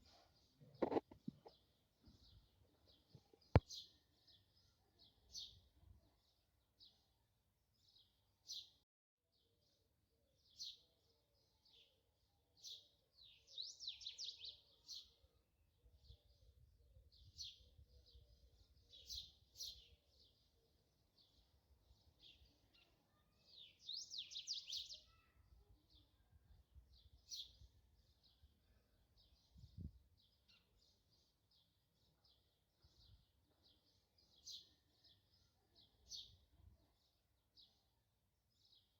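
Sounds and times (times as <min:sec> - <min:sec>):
small birds chirping: 0:00.0 - 0:07.2, 0:10.4 - 0:38.9.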